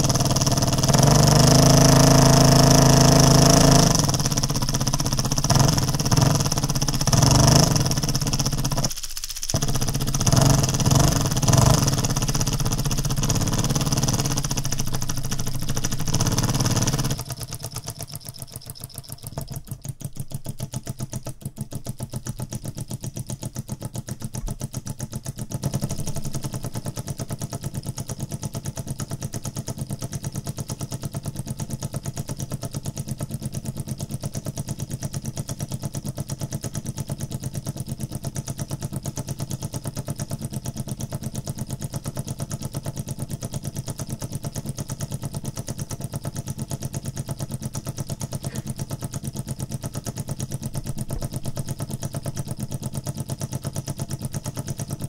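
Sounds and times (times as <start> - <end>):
solenoid engine clicking: 0.0 - 55.0.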